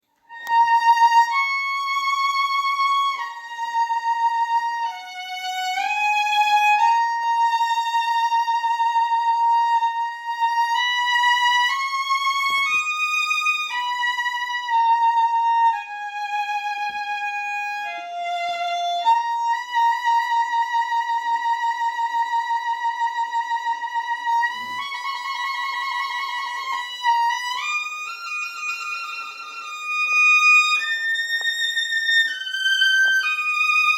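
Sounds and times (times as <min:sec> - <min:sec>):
solo violin slow melody: 0:00.1 - 0:33.9.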